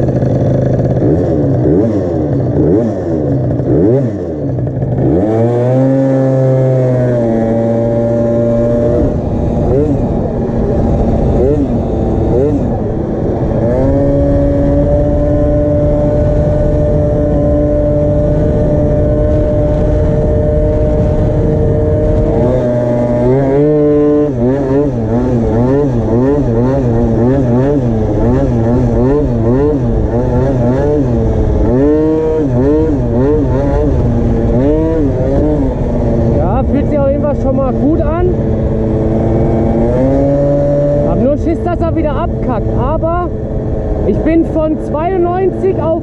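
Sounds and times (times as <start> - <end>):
scooter two-stroke engine revving: 0.0 - 46.0.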